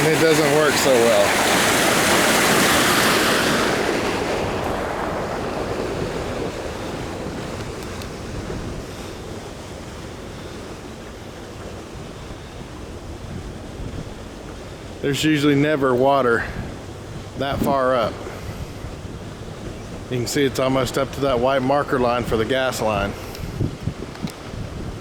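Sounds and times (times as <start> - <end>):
water rushing over rocks: 0.0 - 25.0
wind buffeting microphone: 0.0 - 25.0.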